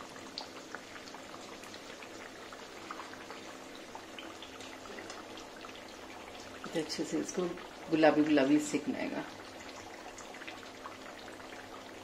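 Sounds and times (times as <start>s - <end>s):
pastries deep-frying sizzle: 0.0s - 12.0s.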